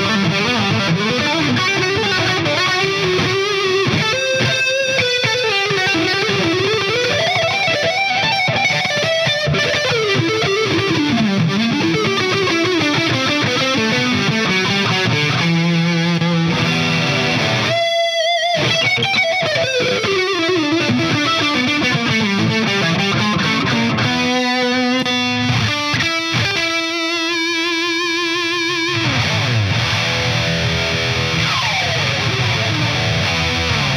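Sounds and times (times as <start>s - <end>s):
distorted electric guitar: 0.0s - 33.9s.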